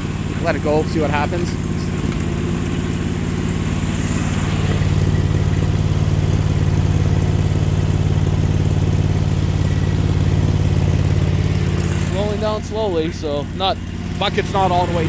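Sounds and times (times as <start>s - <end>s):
garden tractor engine running: 0.0s - 15.0s.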